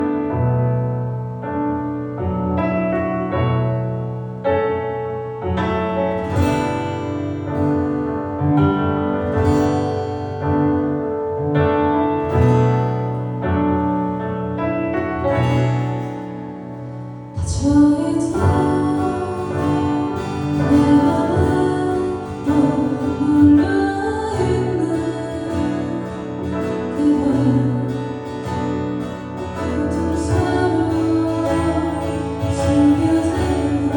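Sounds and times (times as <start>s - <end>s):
piano playing slow chords: 0.0s - 33.9s.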